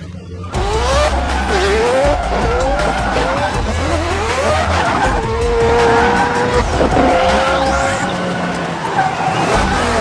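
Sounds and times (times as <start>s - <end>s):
car engine revving: 0.4s - 10.0s
music with pulsing bass: 0.5s - 8.6s, 9.4s - 10.0s.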